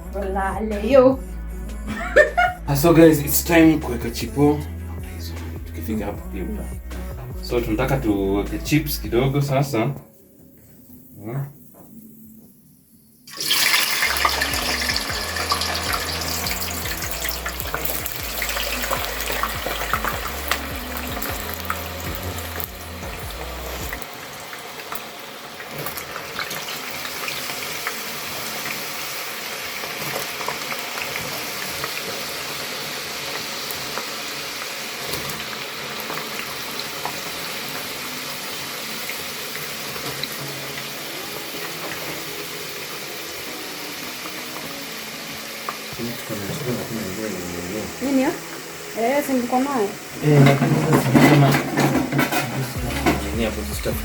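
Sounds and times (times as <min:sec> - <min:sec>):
oil sizzling: 0:00.0 - 0:54.0.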